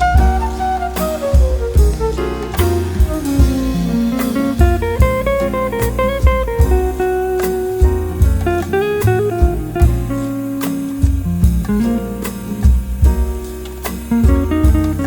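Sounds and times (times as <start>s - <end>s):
bass: 0.0s - 15.0s
drum kit: 0.0s - 15.0s
plucked guitar melody: 0.0s - 15.0s.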